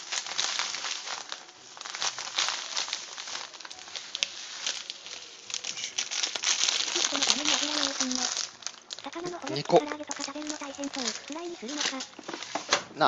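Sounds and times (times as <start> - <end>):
crumbs pattering into metal tray: 0.0 - 12.8
plastic bag crinkling: 0.0 - 13.0.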